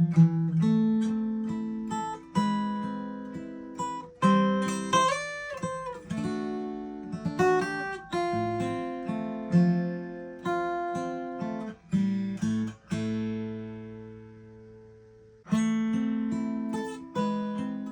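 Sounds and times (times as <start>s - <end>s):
acoustic guitar chords: 0.0s - 17.9s.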